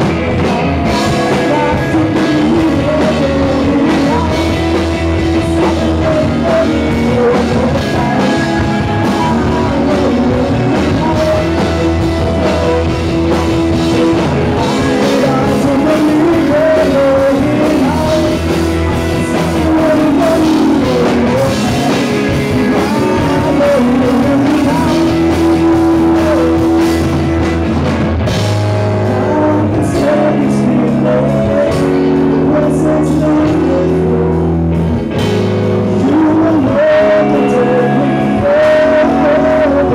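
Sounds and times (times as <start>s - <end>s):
man singing: 0.0s - 27.7s, 28.7s - 39.9s
live rock band playing: 0.0s - 39.9s.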